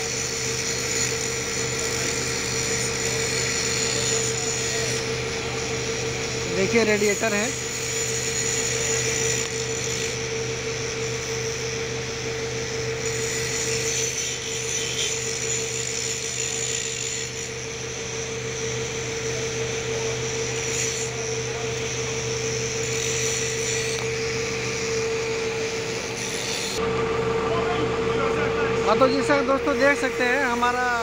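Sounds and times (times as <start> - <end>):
crane engine drone: 0.0 - 31.0
hydraulic whine: 0.0 - 31.0.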